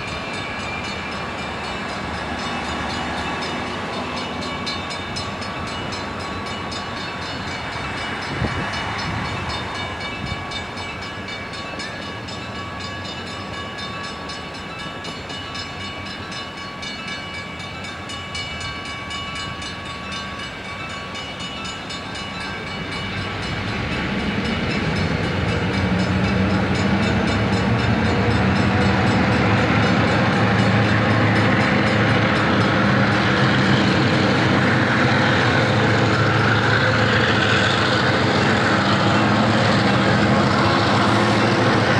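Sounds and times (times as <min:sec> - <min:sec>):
diesel locomotive engine: 0:00.0 - 0:41.9
train rolling on rails: 0:00.0 - 0:41.9.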